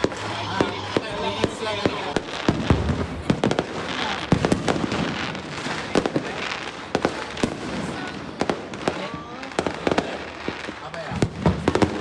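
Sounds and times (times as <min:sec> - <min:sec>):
firecracker crackle: 0:00.0 - 0:12.0
firework bangs: 0:00.0 - 0:12.0.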